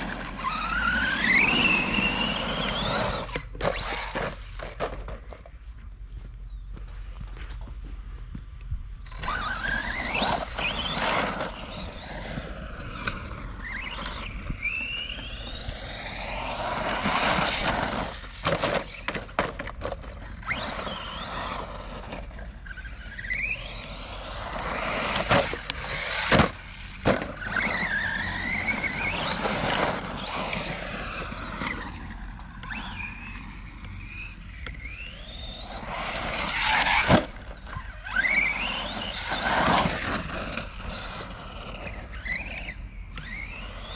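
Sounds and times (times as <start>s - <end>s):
electric motor whining: 0.0s - 4.8s, 9.0s - 43.9s.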